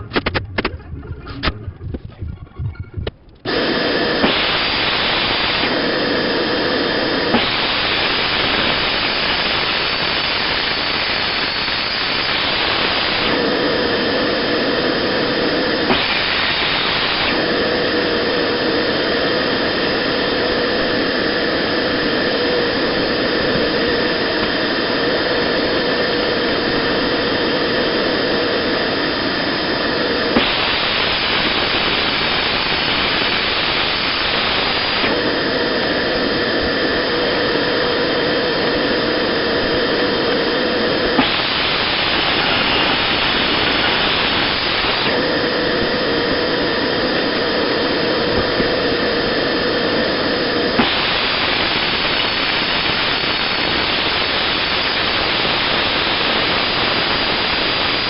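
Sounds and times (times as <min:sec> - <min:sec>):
workshop machine running: 0:03.0 - 0:58.0.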